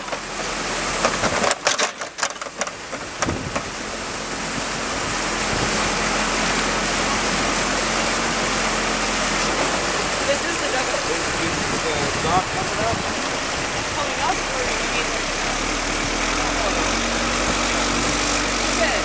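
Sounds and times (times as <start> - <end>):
diesel engine running low: 0.0 - 19.0
water rushing torrent: 0.0 - 19.0.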